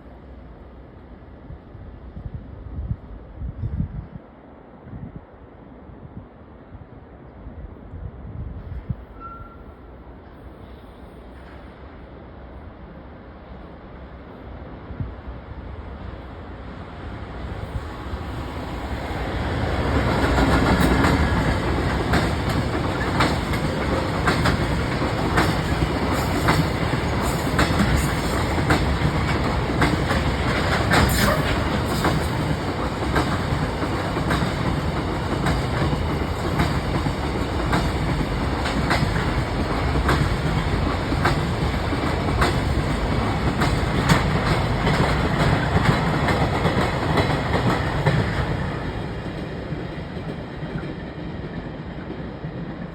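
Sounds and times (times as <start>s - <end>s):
freight train rolling rumble: 0.0s - 52.9s.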